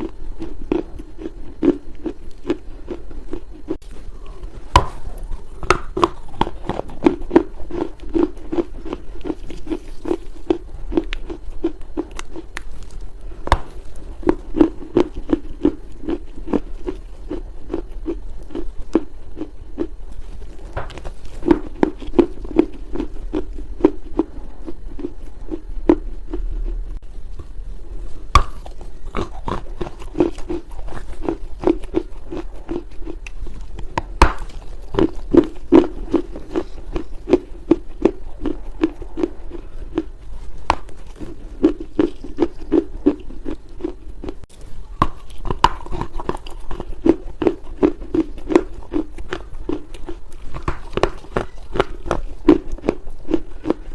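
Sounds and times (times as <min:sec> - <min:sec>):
chewing crunchy clay: 0:00.0 - 0:53.9.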